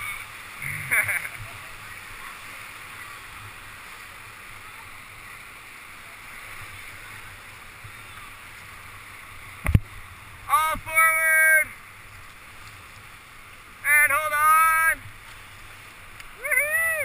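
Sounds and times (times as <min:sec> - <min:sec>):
whitewater rushing in rapids: 0:00.0 - 0:17.0.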